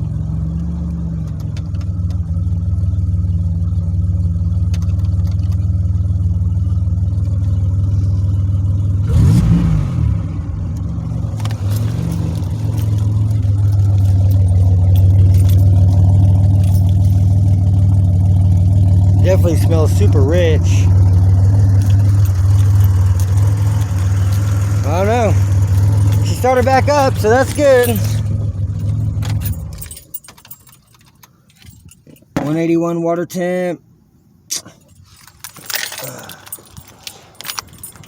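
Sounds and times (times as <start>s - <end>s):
car engine running and revving: 0.0s - 30.5s.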